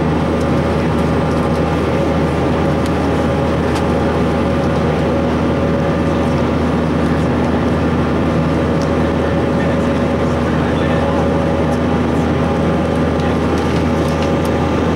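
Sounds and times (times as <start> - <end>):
airplane cabin drone: 0.0 - 14.9
steady humming tones: 0.0 - 14.9.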